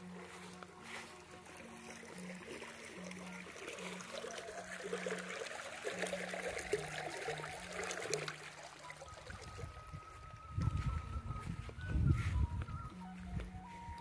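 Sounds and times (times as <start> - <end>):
water trickling in channel: 0.0 - 11.8.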